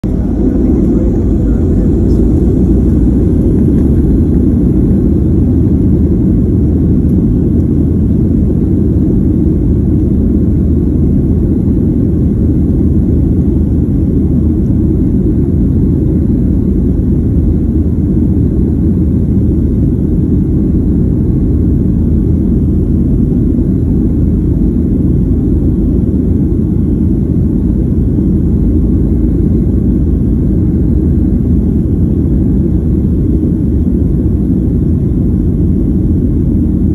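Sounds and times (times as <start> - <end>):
jet engine rumble in cabin: 0.0 - 36.9.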